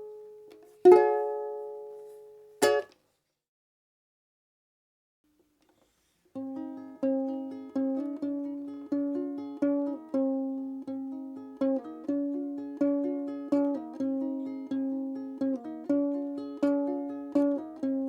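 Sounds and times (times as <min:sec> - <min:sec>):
plucked string instrument melody: 0:00.0 - 0:03.0, 0:06.3 - 0:18.0.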